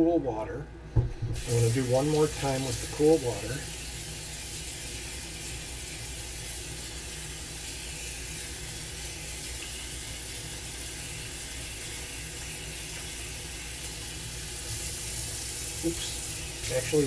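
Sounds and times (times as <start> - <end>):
faucet running into a bowl: 1.3 - 17.0.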